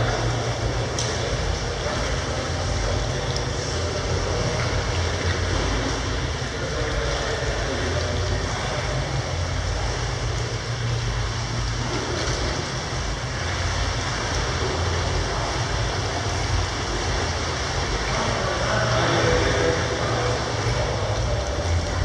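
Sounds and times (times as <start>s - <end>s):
constant low rumble: 0.0s - 22.0s.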